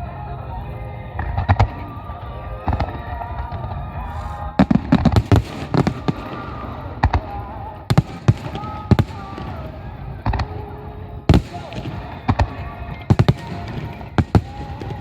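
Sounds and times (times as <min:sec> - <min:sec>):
background music: 0:00.0 - 0:15.0
fireworks bursting: 0:01.2 - 0:15.0.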